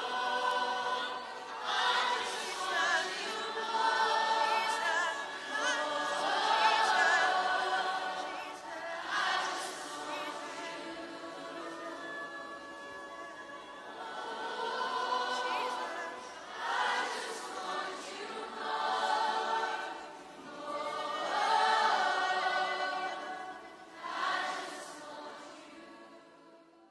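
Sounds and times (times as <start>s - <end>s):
soft music: 0.0s - 26.8s
choir singing held phrases: 0.0s - 26.9s.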